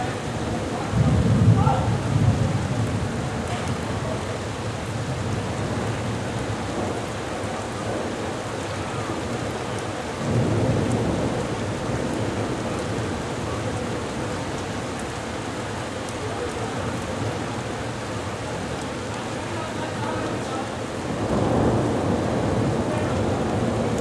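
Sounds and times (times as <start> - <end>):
heavy rain pouring: 0.0 - 24.0
thunder rumbling: 0.0 - 24.0.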